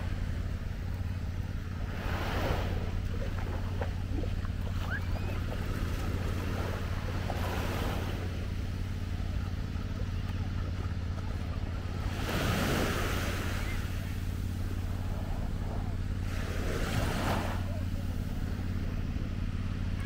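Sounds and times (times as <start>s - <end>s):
steady low rumble: 0.0s - 20.0s
waves washing onto a beach: 0.0s - 20.0s.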